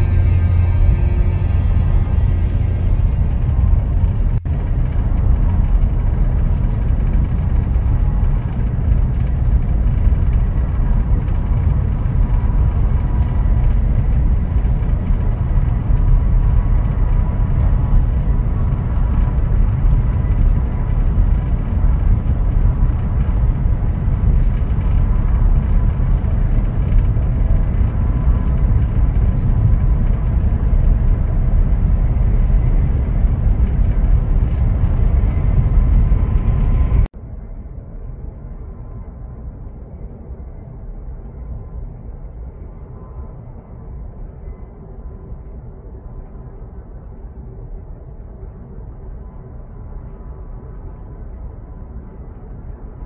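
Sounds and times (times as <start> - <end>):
faint steady whine: 0.0 - 53.0
train rumble inside car: 0.0 - 53.0.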